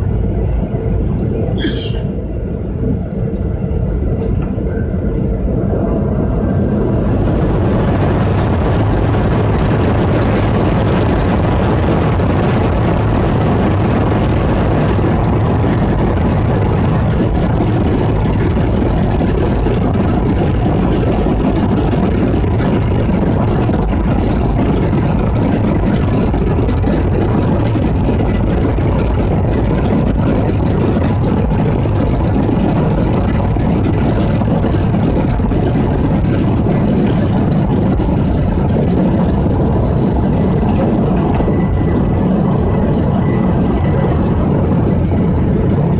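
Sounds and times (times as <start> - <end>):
faint steady whine: 0.0 - 45.9
jet engines roaring inside cabin: 0.0 - 45.9.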